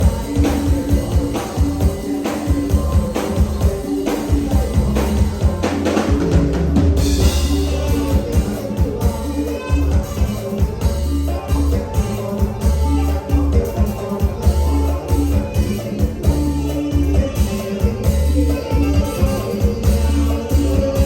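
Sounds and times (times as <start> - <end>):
lively folk music with drums: 0.0 - 21.0.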